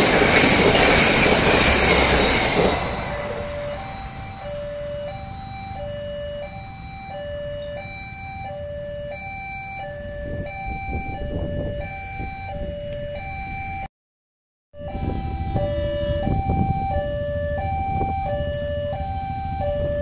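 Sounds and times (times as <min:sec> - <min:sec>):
two-tone crossing alarm chime: 0:00.0 - 0:13.9, 0:14.8 - 0:20.0.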